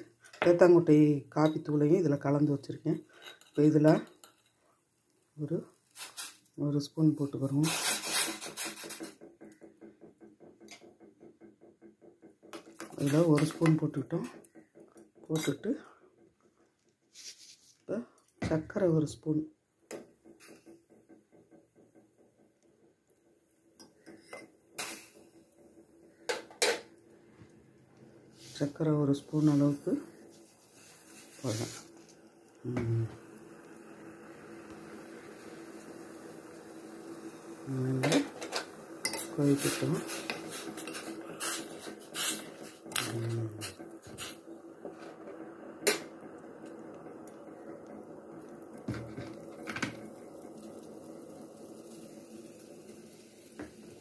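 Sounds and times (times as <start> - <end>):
pot heating on gas stove hiss: 0.0 - 11.4, 12.3 - 54.0.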